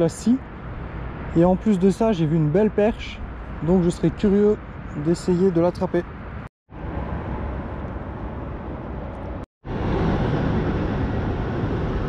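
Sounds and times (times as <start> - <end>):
steady outdoor rumble: 0.0 - 12.0.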